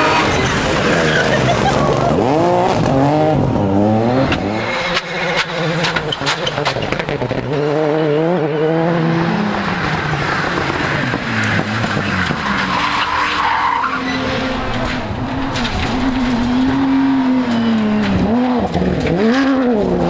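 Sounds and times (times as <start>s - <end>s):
rally car engines revving: 0.0s - 20.0s
tyres skidding and squealing: 0.0s - 20.0s.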